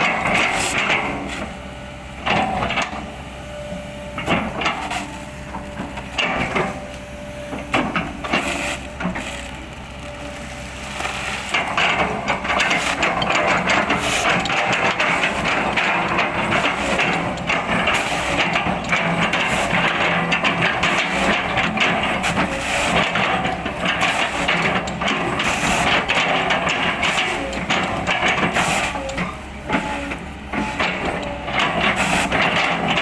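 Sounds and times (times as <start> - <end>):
excavator diesel engine: 0.0 - 33.0.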